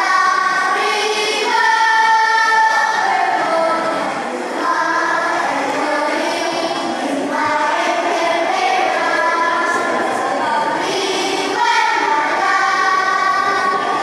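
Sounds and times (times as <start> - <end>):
children singing together: 0.0 - 14.0.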